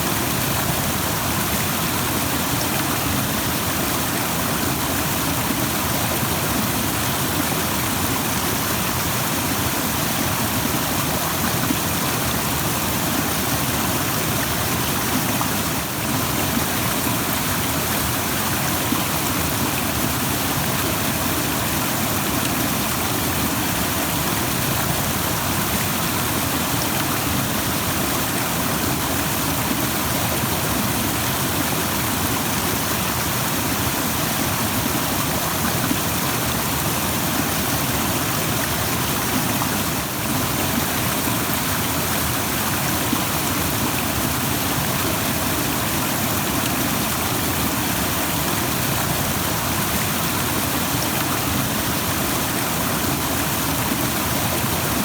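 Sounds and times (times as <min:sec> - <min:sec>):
rushing stream water: 0:00.0 - 0:55.0.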